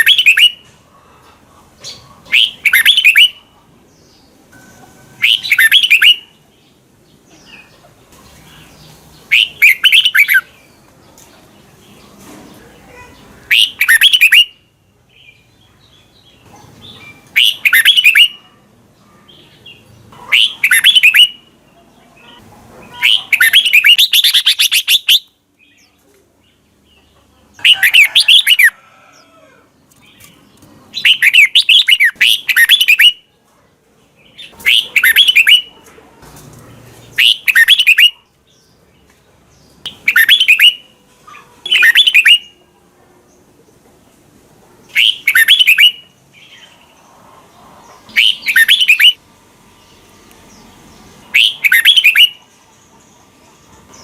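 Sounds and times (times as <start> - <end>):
bird singing warbled phrases: 0.0 - 0.7, 1.6 - 4.5, 5.1 - 28.8, 29.9 - 33.4, 34.0 - 35.9, 37.0 - 43.8, 44.8 - 47.0, 48.1 - 53.0.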